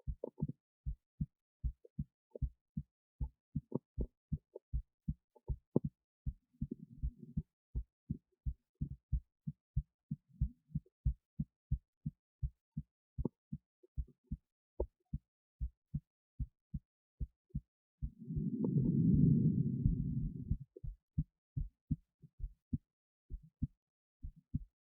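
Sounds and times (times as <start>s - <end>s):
heartbeat thuds: 0.0s - 13.4s, 14.0s - 24.9s.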